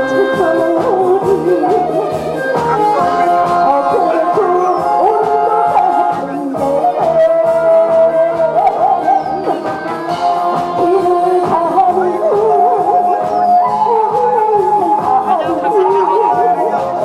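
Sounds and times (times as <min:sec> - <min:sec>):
instrumental accompaniment: 0:00.0 - 0:17.0
woman singing into microphone: 0:00.0 - 0:17.0.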